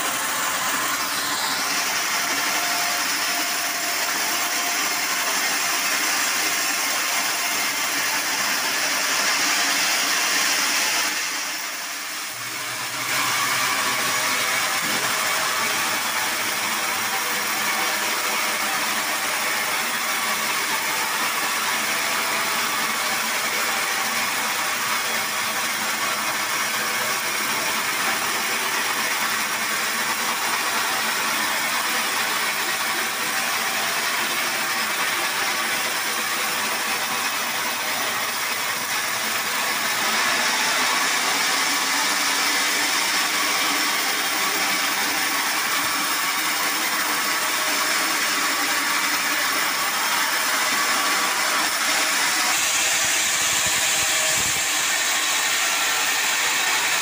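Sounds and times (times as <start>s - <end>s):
band sawmill sawing log: 0.0s - 57.0s.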